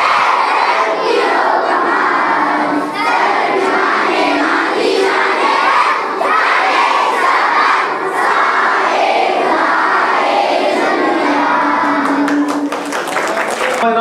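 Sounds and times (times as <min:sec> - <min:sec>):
children shouting together: 0:00.0 - 0:12.4.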